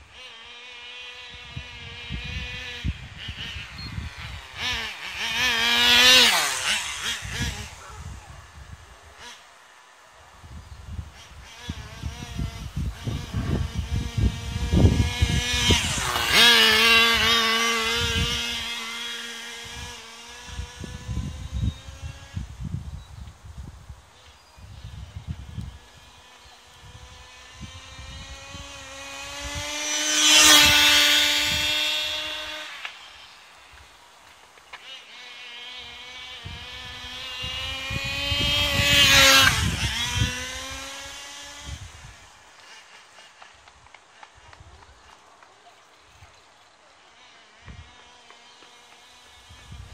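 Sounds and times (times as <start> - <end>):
rc car engine screaming past: 0.0 - 22.8, 24.2 - 34.0, 34.7 - 43.6, 47.0 - 49.9.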